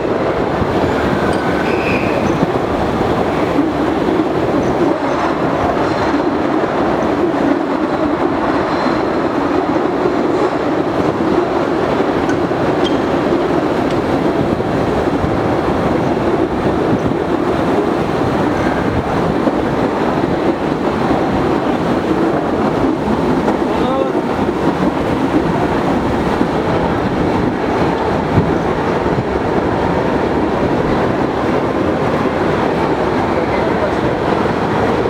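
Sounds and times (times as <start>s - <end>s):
train wheels rattling on rails: 0.0s - 35.0s.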